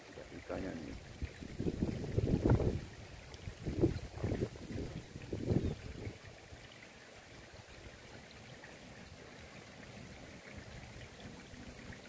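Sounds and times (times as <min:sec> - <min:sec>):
faint water trickling: 0:00.0 - 0:12.0.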